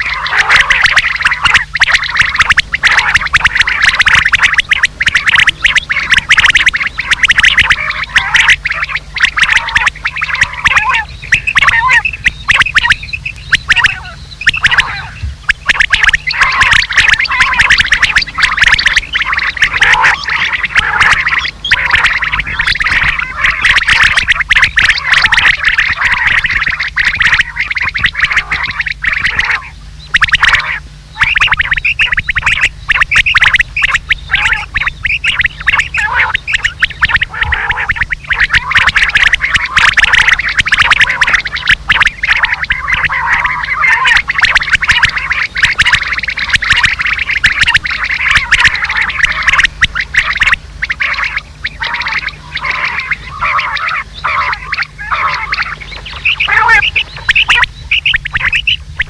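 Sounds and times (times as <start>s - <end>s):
recorded quail calls: 0.0s - 59.0s.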